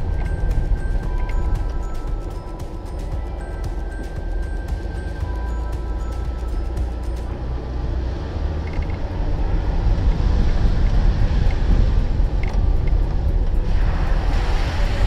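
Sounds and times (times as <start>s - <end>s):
off-road vehicle driving rumble: 0.0s - 15.0s.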